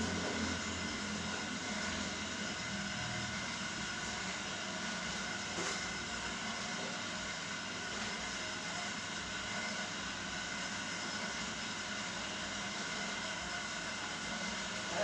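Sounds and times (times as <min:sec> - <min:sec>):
gas burner rushing: 0:00.0 - 0:15.0.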